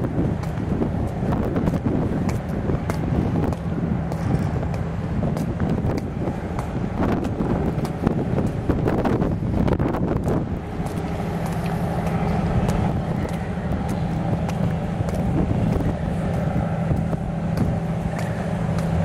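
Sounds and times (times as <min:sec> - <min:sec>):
engine running with low hum: 0:00.0 - 0:19.0
wind gust: 0:00.0 - 0:19.0.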